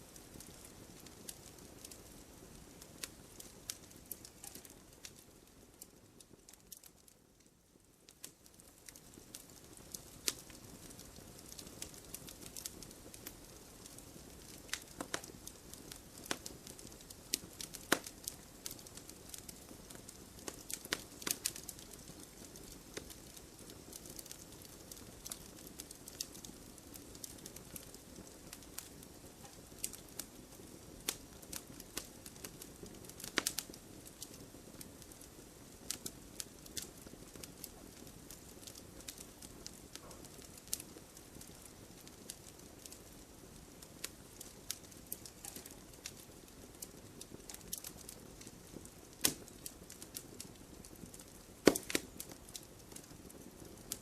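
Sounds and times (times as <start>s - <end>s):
soft hiss of fire: 0.0s - 54.0s
wood fire crackling and popping: 0.0s - 54.0s.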